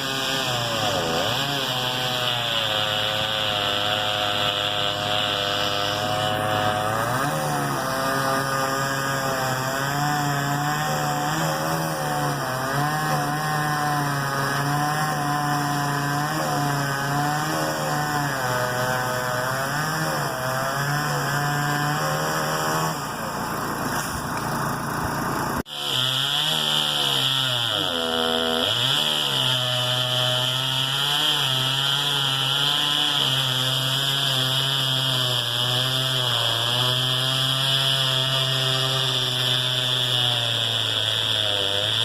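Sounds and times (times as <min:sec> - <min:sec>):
chainsaw cutting wood: 0:00.0 - 0:42.0.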